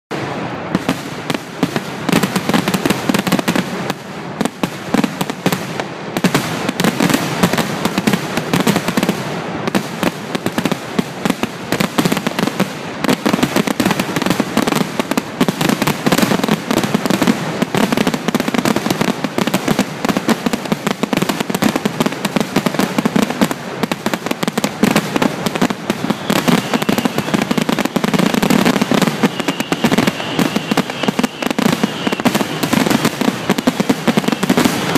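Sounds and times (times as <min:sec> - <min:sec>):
fireworks bursting: 0:00.1 - 0:34.9.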